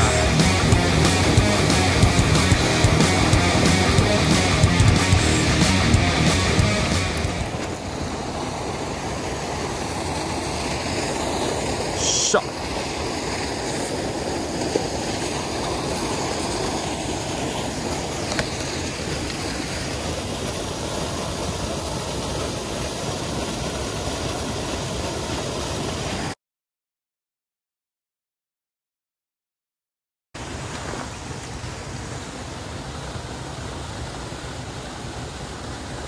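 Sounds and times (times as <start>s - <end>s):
stream water rushing: 0.0s - 26.4s, 30.4s - 36.0s.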